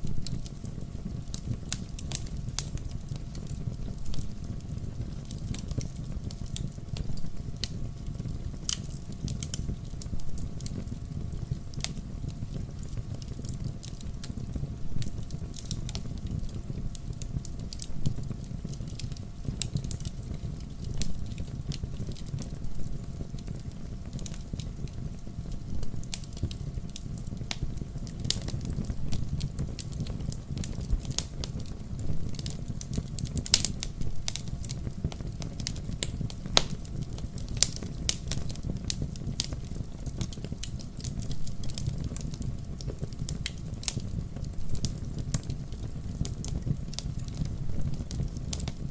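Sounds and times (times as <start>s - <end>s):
fire rumbling: 0.0s - 48.9s
logs crackling and popping: 0.0s - 48.9s.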